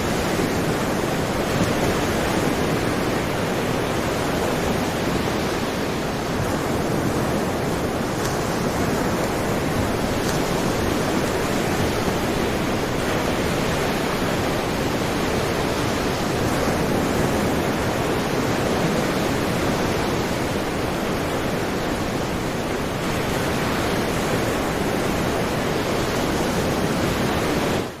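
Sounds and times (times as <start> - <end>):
sea waves washing: 0.0 - 28.0.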